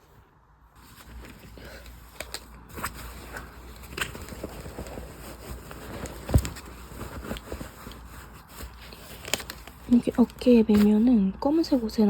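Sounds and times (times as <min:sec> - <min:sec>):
bag rustling: 0:00.8 - 0:12.0.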